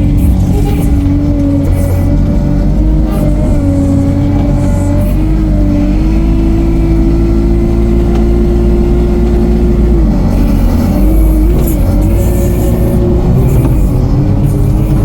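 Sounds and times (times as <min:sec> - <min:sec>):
all-terrain vehicle engine running: 0:00.0 - 0:15.0.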